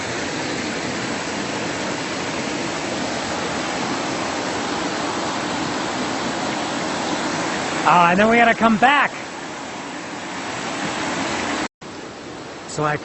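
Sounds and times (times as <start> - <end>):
fast stream rushing: 0.0 - 13.0.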